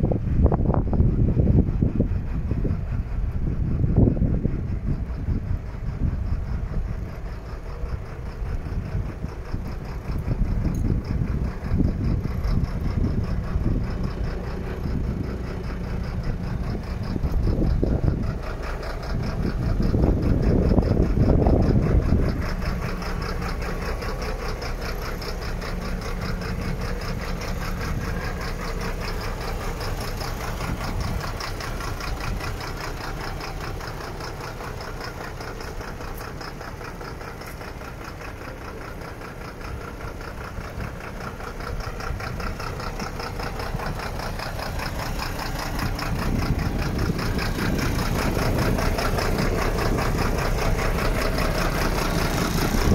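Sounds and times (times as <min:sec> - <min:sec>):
truck diesel engine idling: 0:00.0 - 0:52.9.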